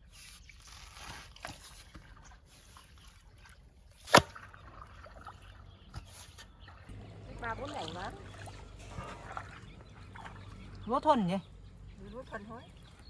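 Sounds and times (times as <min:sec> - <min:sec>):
water trickling and sloshing: 0:00.0 - 0:13.0.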